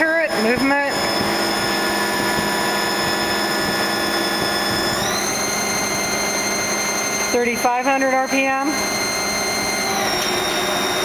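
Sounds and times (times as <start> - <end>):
lathe spindle whine: 0.0 - 11.0.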